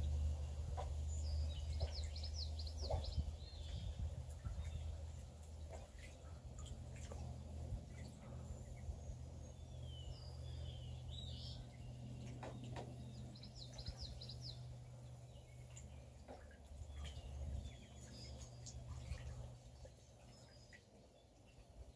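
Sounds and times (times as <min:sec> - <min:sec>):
ducklings peeping: 0:00.0 - 0:20.9
low background hum: 0:00.0 - 0:21.9.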